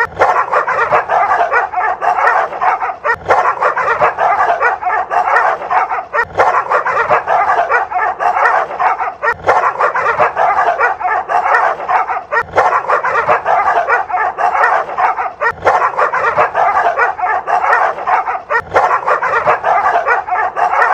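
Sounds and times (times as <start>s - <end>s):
dogs barking and yipping: 0.0s - 20.9s.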